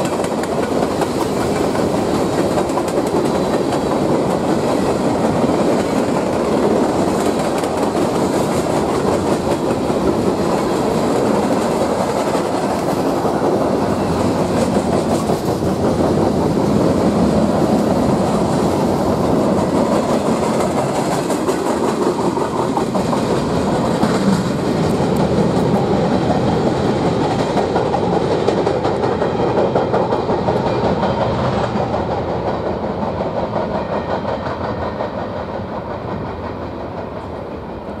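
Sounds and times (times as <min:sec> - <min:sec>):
freight train cars rolling on rails: 0:00.0 - 0:38.0
wheels clicking over rail joints: 0:00.0 - 0:38.0.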